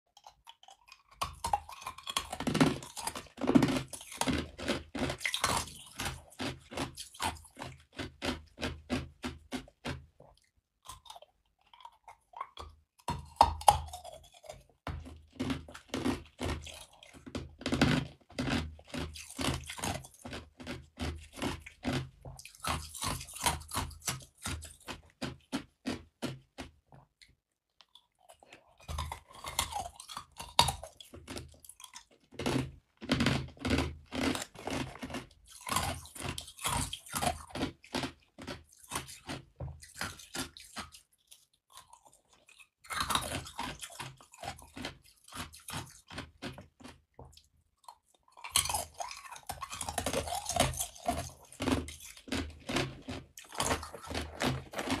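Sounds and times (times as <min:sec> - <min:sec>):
ice cubes crunching when chewed: 0:00.1 - 0:55.0.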